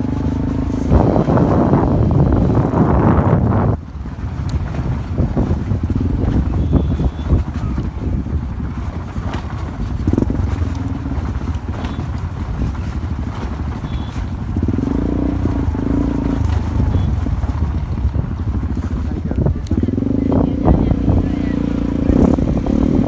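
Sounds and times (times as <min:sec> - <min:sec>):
low rumble: 0:00.0 - 0:23.0
motorcycle engine running: 0:00.0 - 0:23.0
knocks and rattles from bumps: 0:03.3 - 0:23.0.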